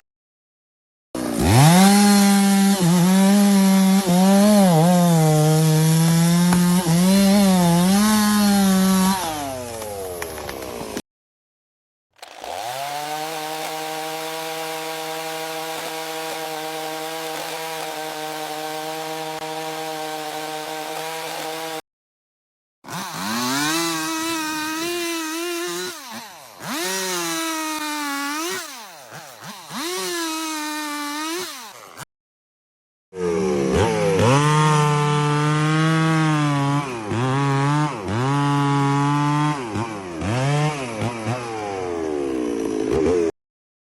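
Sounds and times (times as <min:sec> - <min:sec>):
chainsaw revving: 0:01.2 - 0:11.0, 0:12.2 - 0:21.8, 0:22.9 - 0:32.1, 0:33.2 - 0:43.4.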